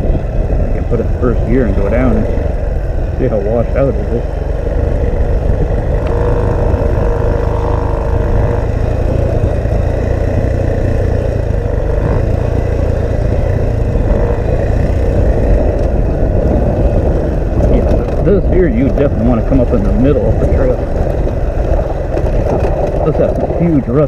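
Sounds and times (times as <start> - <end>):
off-road vehicle engine running: 0.0 - 24.0
wind noise on microphone: 0.0 - 24.0.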